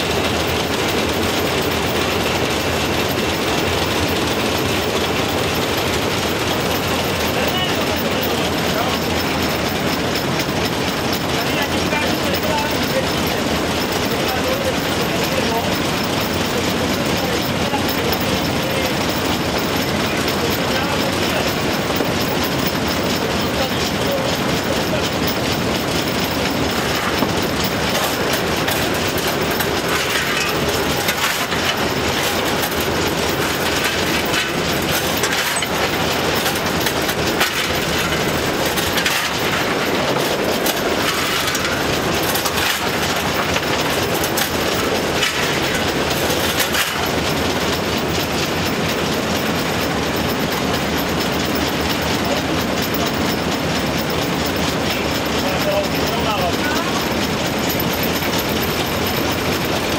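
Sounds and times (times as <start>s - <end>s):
steam locomotive running noise: 0.0s - 59.9s
wheels clattering on rail joints: 0.0s - 59.9s.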